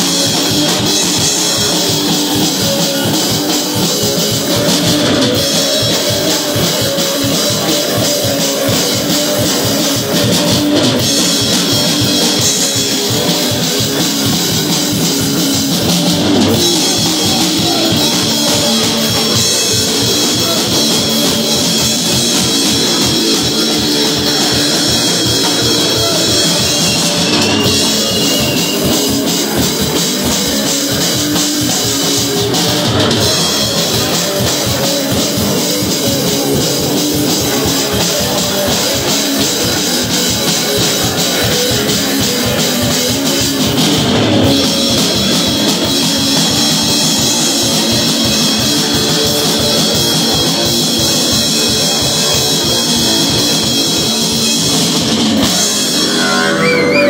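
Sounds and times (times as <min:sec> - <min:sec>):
distorted electric guitars: 0:00.0 - 0:57.0
pounding drum kit: 0:00.0 - 0:57.0.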